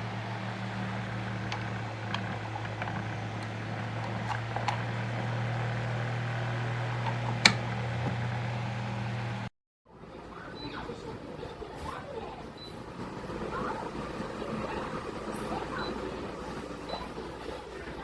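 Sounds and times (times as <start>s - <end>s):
electric fan running: 0.0s - 18.0s.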